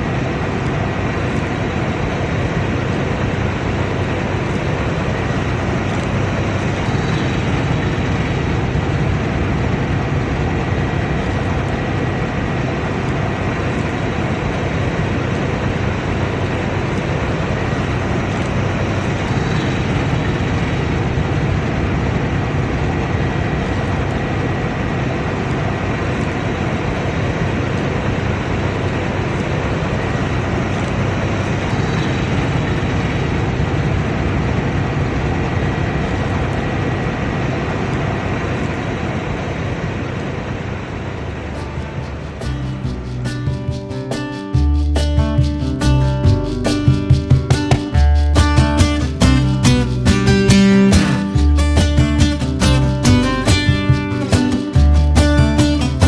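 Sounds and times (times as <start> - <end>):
combine harvester drone: 0.0 - 56.0.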